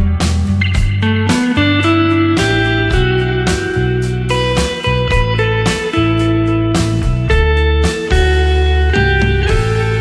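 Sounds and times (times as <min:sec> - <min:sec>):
guitar instrumental music: 0:00.0 - 0:10.0
steady bass: 0:00.0 - 0:10.0.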